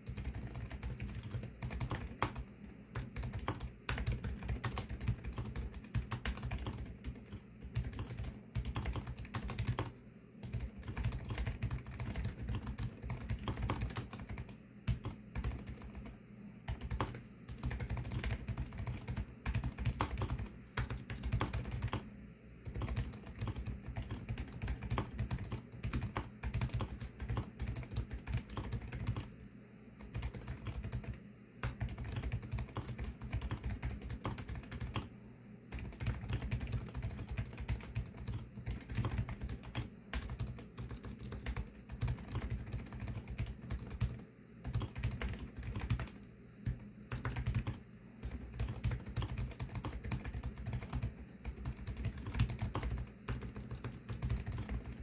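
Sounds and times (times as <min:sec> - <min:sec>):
fast keyboard typing: 0:00.0 - 0:29.4, 0:30.0 - 0:55.0.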